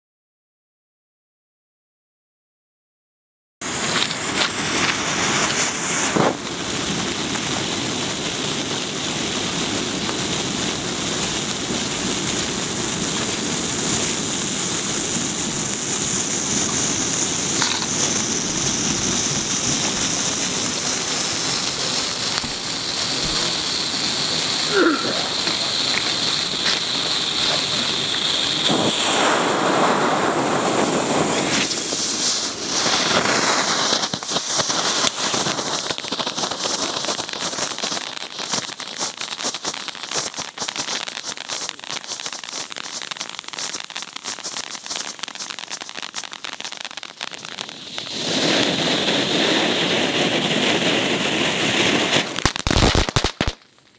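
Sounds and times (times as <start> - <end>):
firework spraying sparks hiss: 3.6 - 53.9
rapid firework crackling: 3.6 - 53.9.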